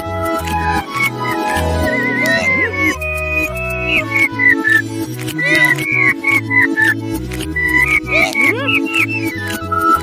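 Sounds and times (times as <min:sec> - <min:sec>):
jaunty cartoon music: 0:00.0 - 0:10.0.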